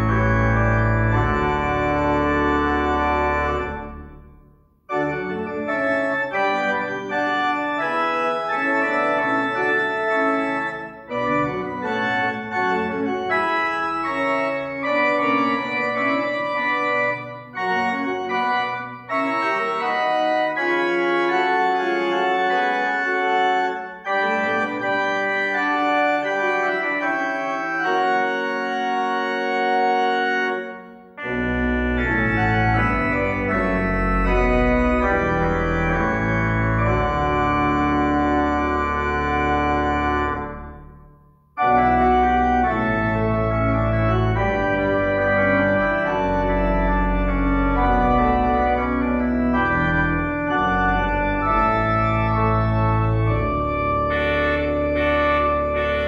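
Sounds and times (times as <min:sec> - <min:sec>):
organ music: 0:00.0 - 0:56.0.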